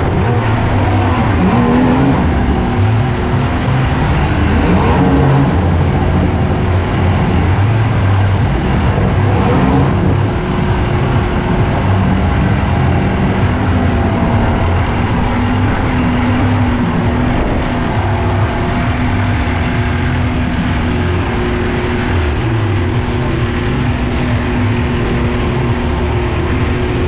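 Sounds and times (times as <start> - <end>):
boat motor humming: 0.0 - 27.0
wind and water rushing: 0.0 - 27.0.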